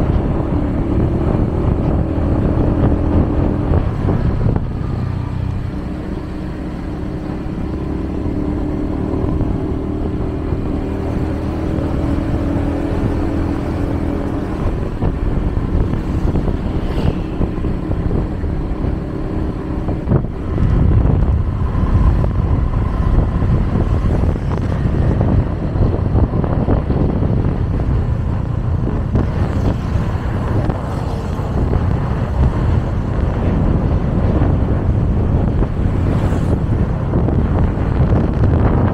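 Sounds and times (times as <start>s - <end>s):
cars and motorbikes passing: 0.0s - 38.9s
heavy low rumble: 0.0s - 38.9s.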